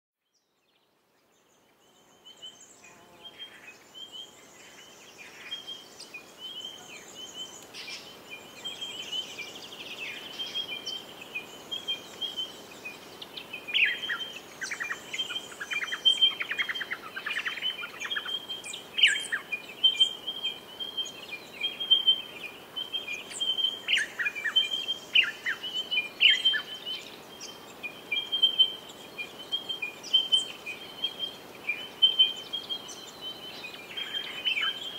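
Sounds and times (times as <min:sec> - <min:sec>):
birds chirping and whistling: 0:04.8 - 0:34.9.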